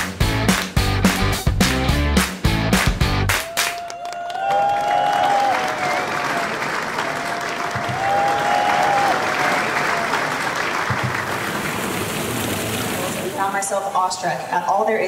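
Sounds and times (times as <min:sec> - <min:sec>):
people clapping: 0:00.0 - 0:13.4.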